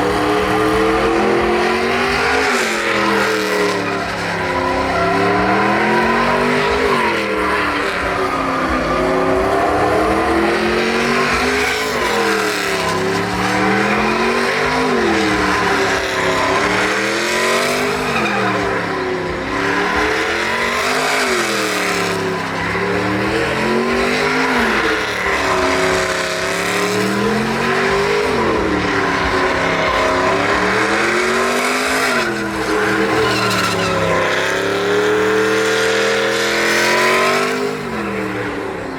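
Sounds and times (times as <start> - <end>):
tires squealing: 0.0 - 38.9
truck engine revving: 0.0 - 38.9.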